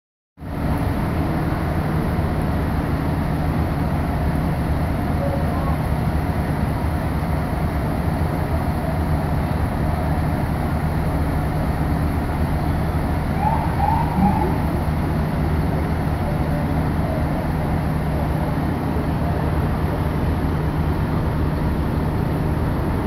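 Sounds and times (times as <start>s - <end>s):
diesel engine driving pump: 0.4s - 23.0s.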